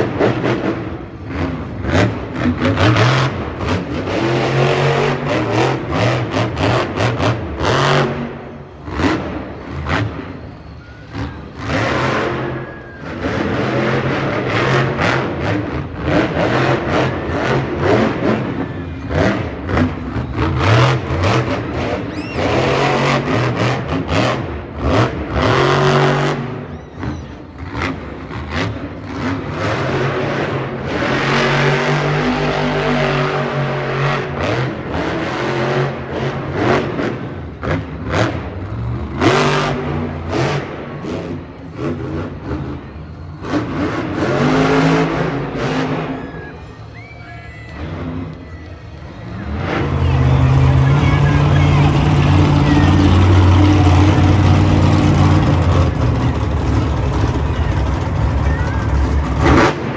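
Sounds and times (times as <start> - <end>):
truck engine revving hard: 0.0 - 46.5, 49.0 - 59.9.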